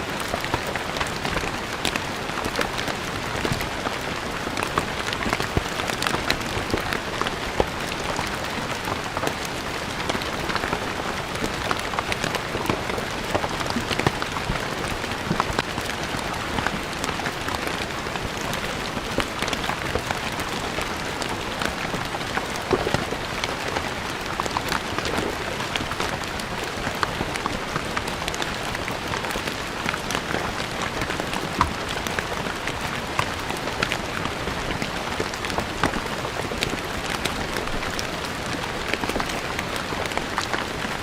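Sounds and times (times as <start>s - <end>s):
rain on a stone floor: 0.0s - 41.0s.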